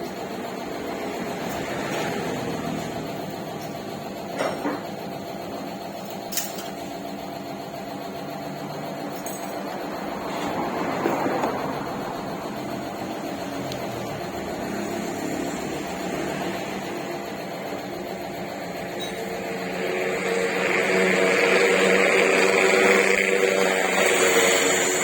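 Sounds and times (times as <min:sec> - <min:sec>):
motor-driven workshop tool running: 0:00.0 - 0:25.0.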